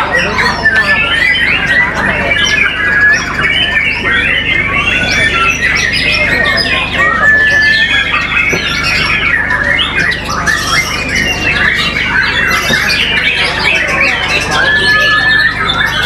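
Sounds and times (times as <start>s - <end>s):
bird singing varied notes: 0.0s - 16.0s
bird whistle: 0.0s - 16.0s.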